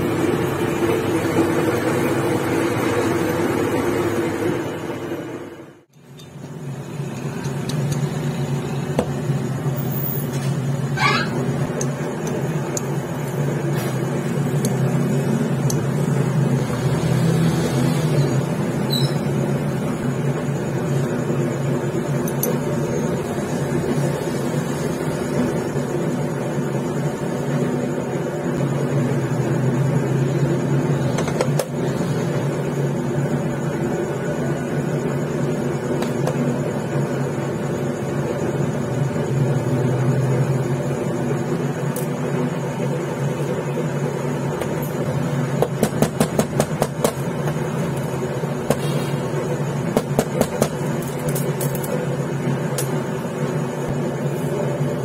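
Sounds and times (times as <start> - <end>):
workshop motor humming: 0.0 - 55.0.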